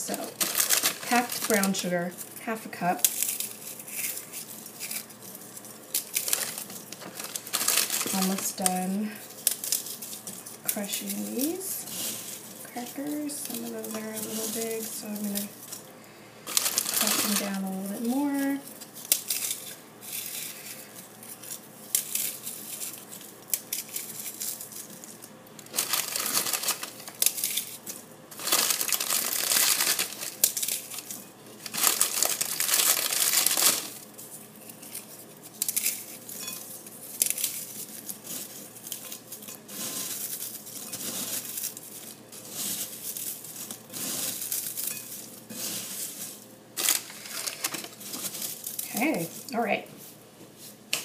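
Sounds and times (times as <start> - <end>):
crackers being crushed: 0.0 - 49.5.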